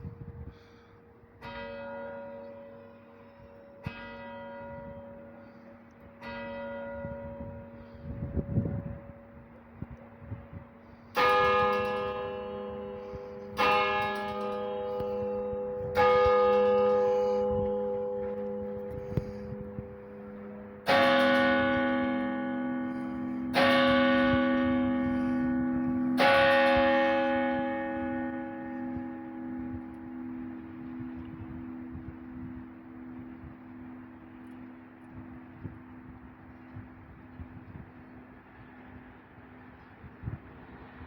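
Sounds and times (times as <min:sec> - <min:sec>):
church bell strokes: 0:00.0 - 0:41.0
second lower church bell strokes: 0:00.0 - 0:41.0.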